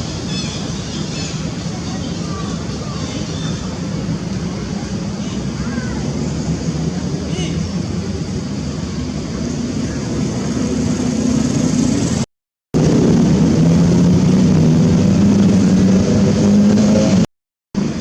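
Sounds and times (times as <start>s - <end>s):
vehicle engine droning: 1.5s - 18.0s.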